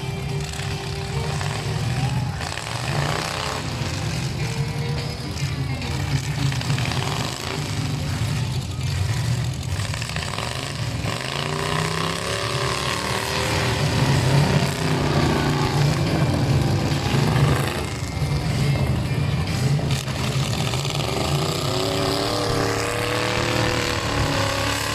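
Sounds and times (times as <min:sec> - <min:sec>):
truck engines revving: 0:00.0 - 0:24.9.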